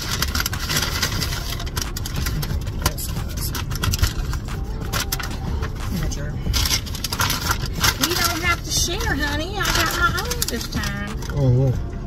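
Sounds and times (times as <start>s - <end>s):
food containers rustling and clicking: 0.0s - 11.6s
low rumble in car cabin: 0.0s - 12.0s.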